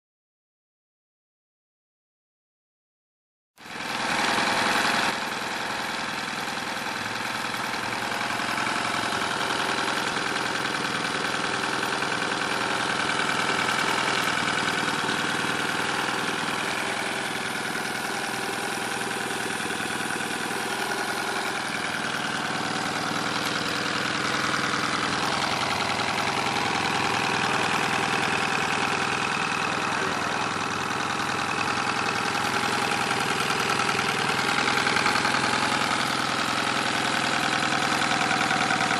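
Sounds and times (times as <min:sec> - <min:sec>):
outboard motor idling: 0:03.6 - 0:38.9.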